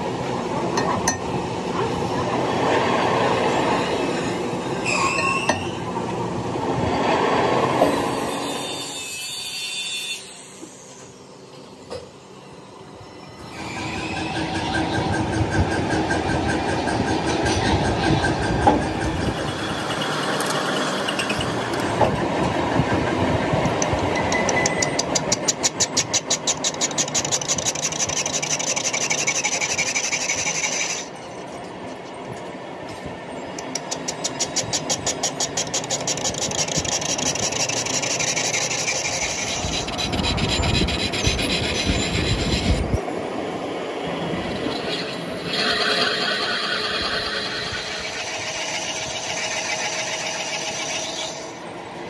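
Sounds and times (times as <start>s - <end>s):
factory machinery running: 0.0s - 52.0s.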